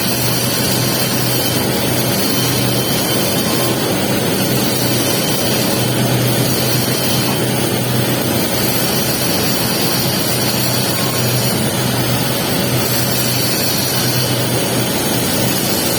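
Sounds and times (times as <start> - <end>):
low constant hum: 0.0 - 15.9.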